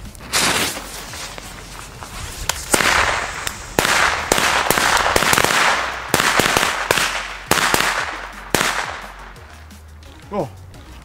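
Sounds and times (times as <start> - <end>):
firecrackers banging and popping: 0.0 - 9.7.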